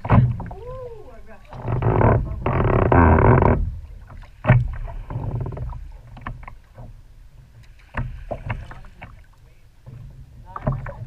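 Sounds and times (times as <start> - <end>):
water rushing against hull: 0.0 - 11.0
water slapping against hull: 0.0 - 11.0.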